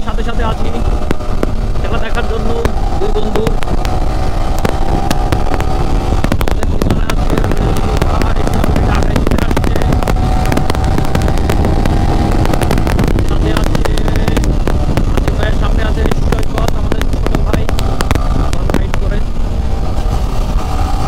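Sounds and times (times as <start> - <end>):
motorcycle engine cruising: 0.0 - 21.0
sharp crackles and clicks: 0.0 - 21.0.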